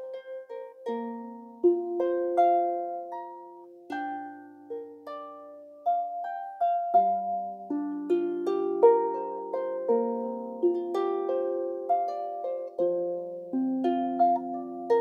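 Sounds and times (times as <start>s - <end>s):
harp playing slow melody: 0.0s - 15.0s.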